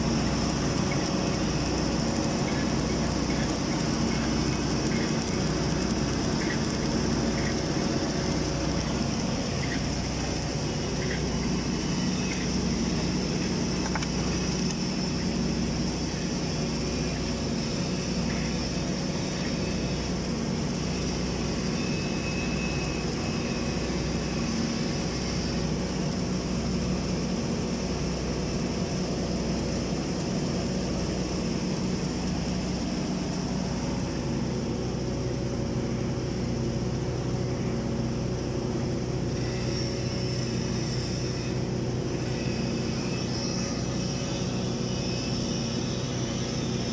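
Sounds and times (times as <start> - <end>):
welding machine hum: 0.0 - 46.9.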